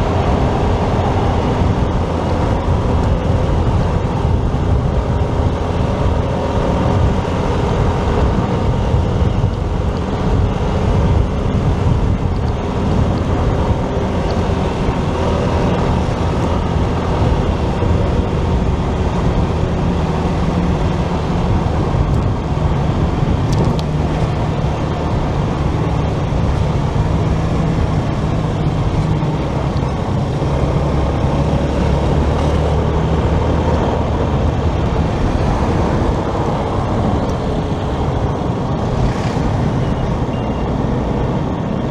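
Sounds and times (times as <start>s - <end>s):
motorcycle engine: 0.0s - 41.9s
surrounding traffic: 0.0s - 41.9s
wind rush on microphone: 0.0s - 41.9s.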